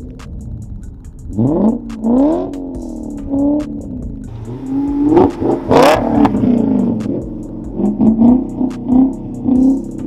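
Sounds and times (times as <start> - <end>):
car engine revving hard: 1.4 - 10.0.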